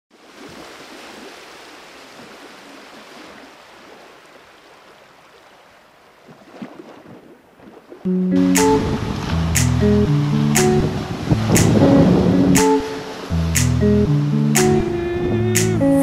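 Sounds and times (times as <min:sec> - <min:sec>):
river water washing at shoreline: 0:00.1 - 0:15.8.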